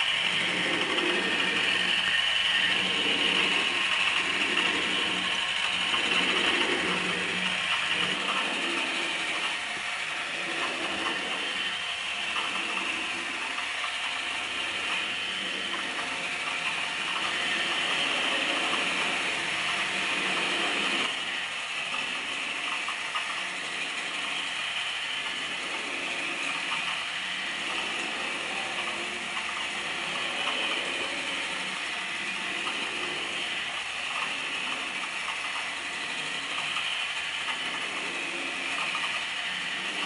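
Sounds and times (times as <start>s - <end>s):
drawing machine mechanical whir: 0.0s - 40.0s.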